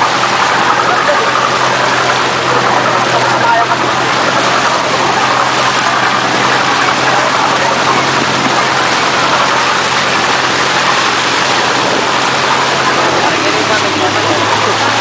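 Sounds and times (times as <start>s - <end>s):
boat engine drone: 0.0s - 15.0s
rushing splashing water: 0.0s - 15.0s.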